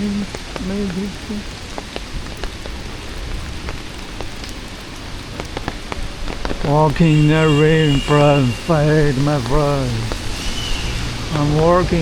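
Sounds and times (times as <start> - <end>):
heavy rain falling: 0.0 - 12.0
raindrops ticking close by: 0.0 - 12.0.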